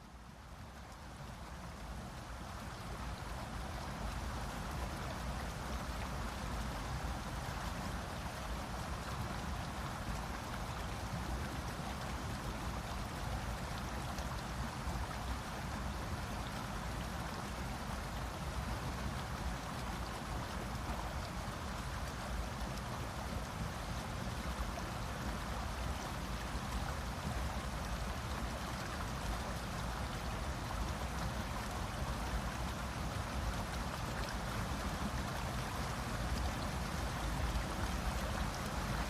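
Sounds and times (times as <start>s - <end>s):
rushing water: 0.0s - 39.0s.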